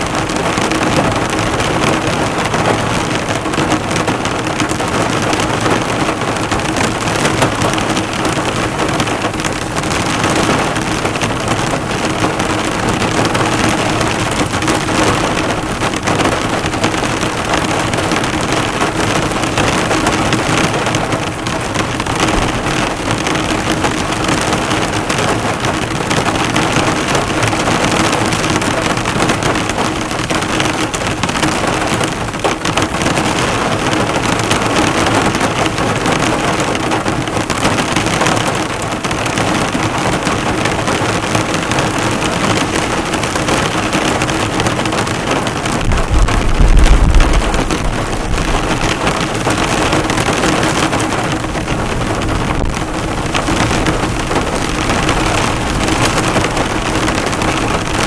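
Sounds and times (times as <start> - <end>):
heavy rain drumming on a car: 0.0 - 58.0.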